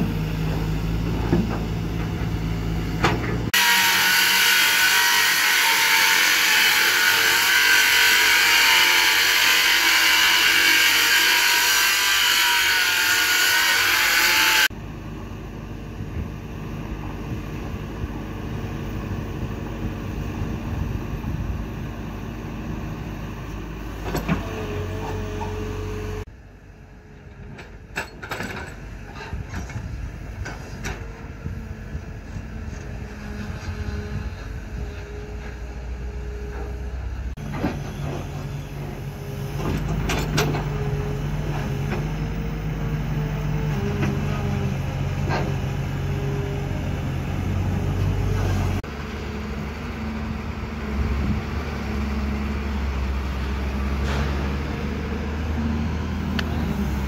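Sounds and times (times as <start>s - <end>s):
excavator diesel engines running: 0.0s - 13.6s, 14.3s - 57.0s.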